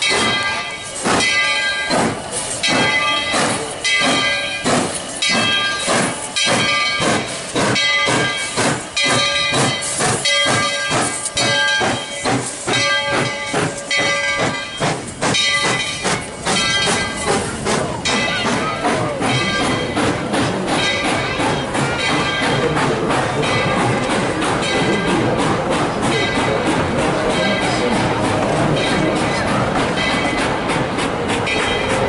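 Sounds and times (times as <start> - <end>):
hissing steam: 0.0 - 32.0.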